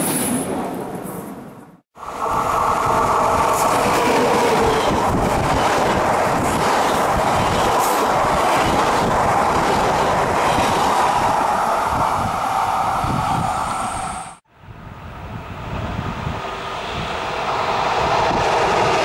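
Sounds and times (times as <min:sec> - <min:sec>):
train wheels rushing on rails: 0:02.0 - 0:14.4, 0:15.3 - 0:19.0.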